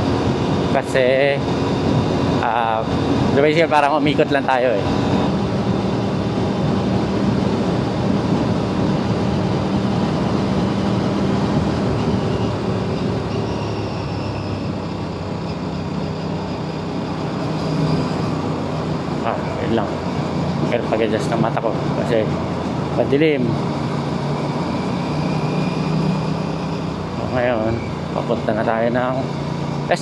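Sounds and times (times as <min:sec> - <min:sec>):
wind rush: 0:00.0 - 0:28.0.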